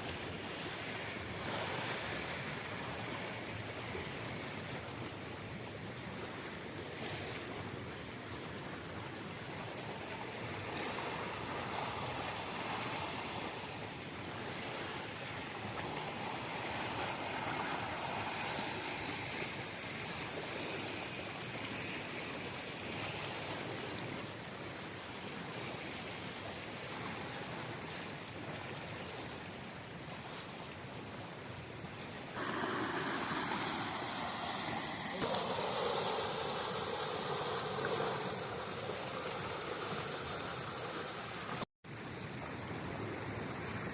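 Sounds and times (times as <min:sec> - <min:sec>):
stream water rushing: 0:00.0 - 0:06.4, 0:07.0 - 0:23.5, 0:29.6 - 0:43.9.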